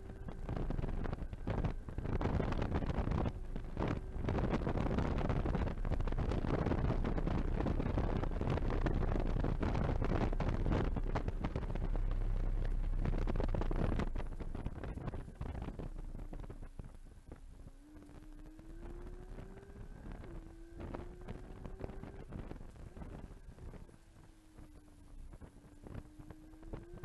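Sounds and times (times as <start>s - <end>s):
car engine at full throttle: 0.0s - 27.0s
wind noise inside car: 0.0s - 27.0s.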